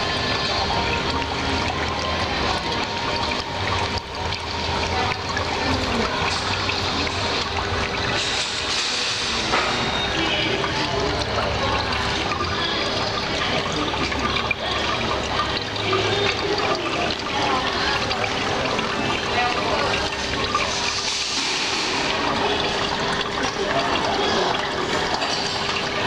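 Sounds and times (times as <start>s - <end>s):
fountain water splashing and trickling: 0.0s - 26.0s.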